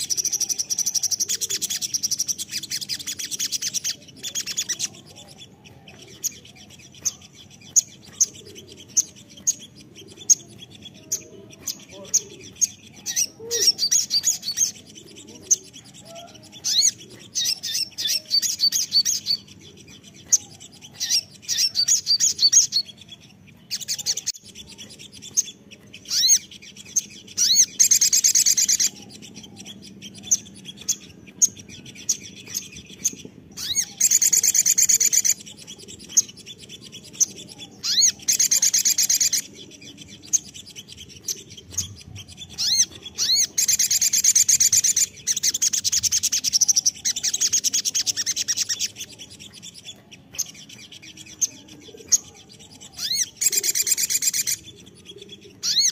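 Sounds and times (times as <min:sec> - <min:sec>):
bird high rapid chirps: 0:00.0 - 0:55.9.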